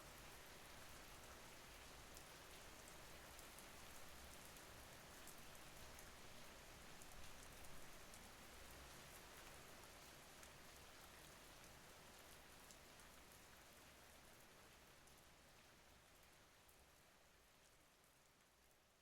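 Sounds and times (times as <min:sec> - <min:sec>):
faint steady rain with drop ticks: 0:00.0 - 0:19.0.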